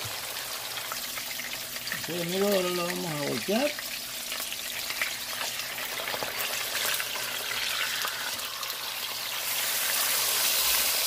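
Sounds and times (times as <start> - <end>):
pork sizzling in hot oil: 0.0 - 11.0.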